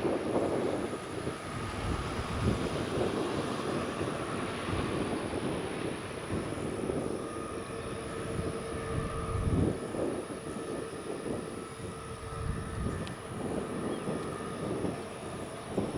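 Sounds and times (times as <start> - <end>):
faint engine whine: 0.0 - 15.9
jet engine rumble: 0.0 - 15.9.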